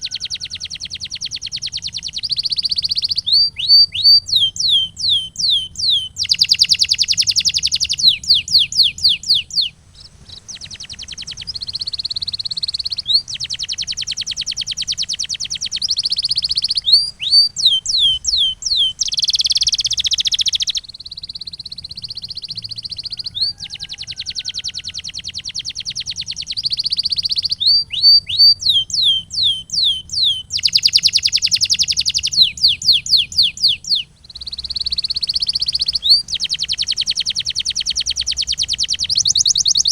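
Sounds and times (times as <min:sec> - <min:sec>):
canary singing trills and whistles: 0:00.0 - 0:39.9.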